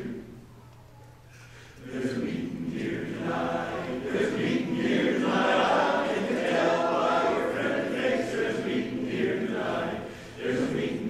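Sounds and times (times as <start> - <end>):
men's chorus singing a cappella: 1.8 - 11.0.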